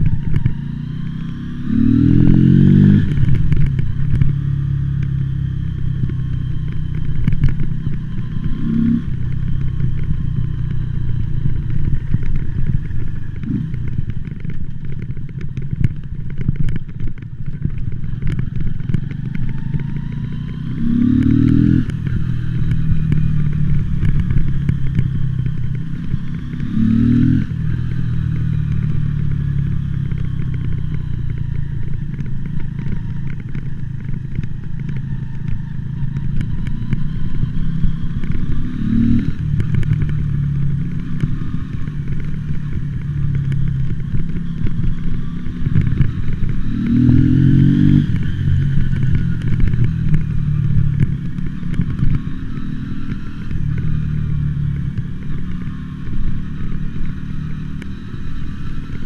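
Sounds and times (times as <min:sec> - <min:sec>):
crackling clicks: 0:00.0 - 0:59.0
motorcycle engine running: 0:00.0 - 0:59.0.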